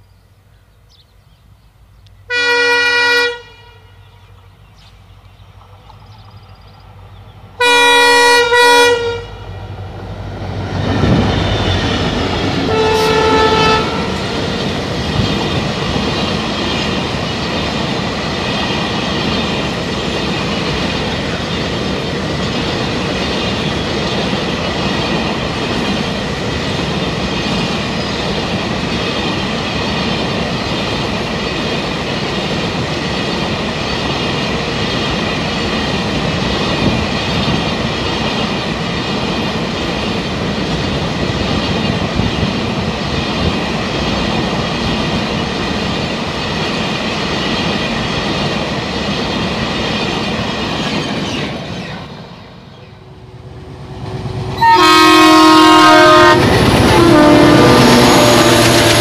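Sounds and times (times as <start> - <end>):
train wheels rumbling on rails: 4.1 - 59.0.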